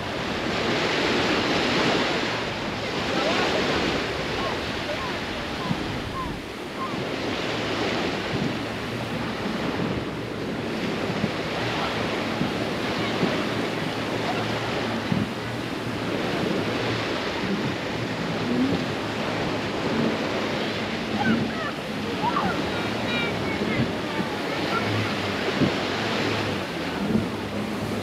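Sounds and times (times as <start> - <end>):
small waves washing onto shore: 0.0 - 28.0
wind: 0.0 - 28.0
faint scattered voices: 1.5 - 28.0.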